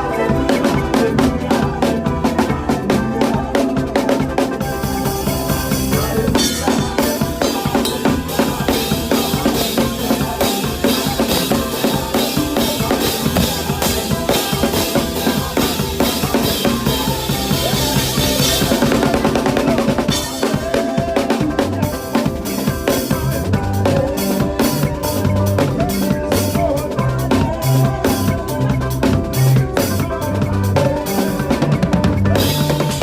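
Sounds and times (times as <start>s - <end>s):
drum kit kick and snare: 0.0s - 33.0s
makossa praise music: 0.0s - 33.0s.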